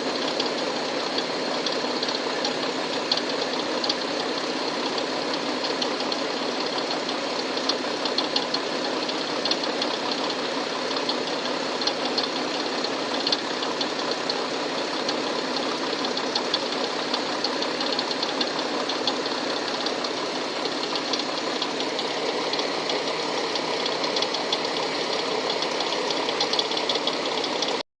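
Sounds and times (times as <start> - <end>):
car engine running: 0.0 - 27.8
fast even engine knock tapping: 0.1 - 27.8.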